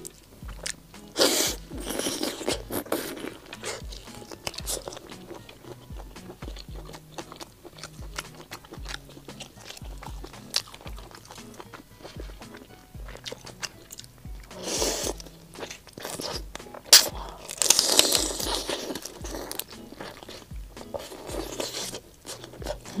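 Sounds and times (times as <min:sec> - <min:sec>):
background music with soft beat: 0:00.0 - 0:23.0
prawn shell cracking and crunching: 0:00.0 - 0:23.0
sucking and slurping: 0:00.0 - 0:23.0.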